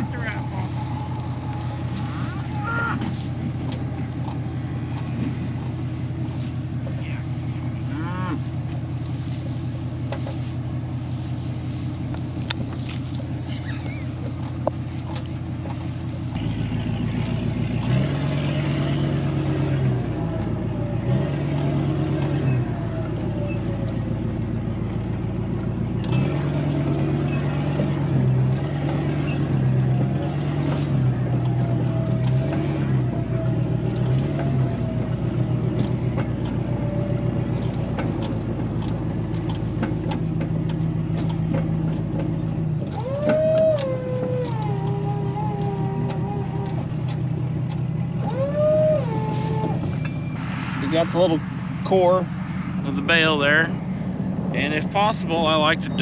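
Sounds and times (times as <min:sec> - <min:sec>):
spinning rotor whine: 0:00.0 - 0:56.0
tractor engine running: 0:00.0 - 0:56.0.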